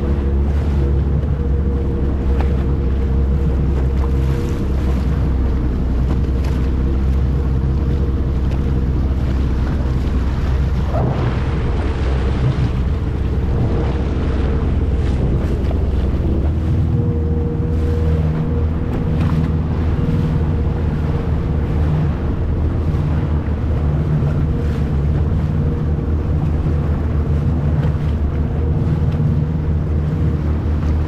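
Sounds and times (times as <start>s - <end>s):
jet ski engine running: 0.0s - 31.0s
wind buffeting microphone: 0.0s - 31.0s.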